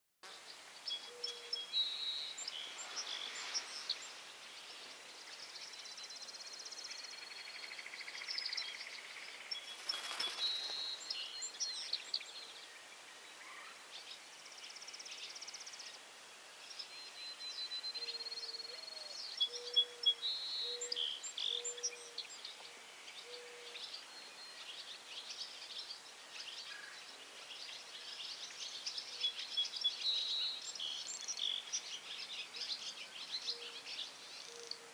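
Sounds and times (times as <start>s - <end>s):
birds singing and chirping: 0.8s - 16.0s, 16.8s - 34.9s.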